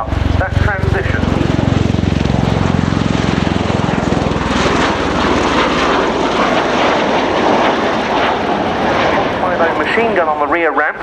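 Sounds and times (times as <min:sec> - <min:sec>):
tiltrotor aircraft engine rush: 0:00.0 - 0:11.0.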